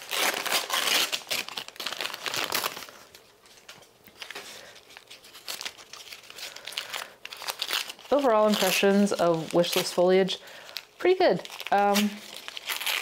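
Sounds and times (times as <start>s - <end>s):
paper wrapping crinkling: 0.0s - 13.0s.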